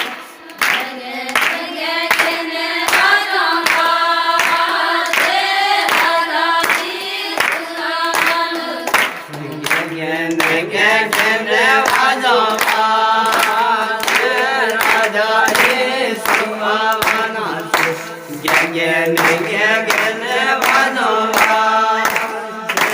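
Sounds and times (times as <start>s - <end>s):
group singing a worship song: 0.0s - 22.9s
hand claps: 0.0s - 22.9s.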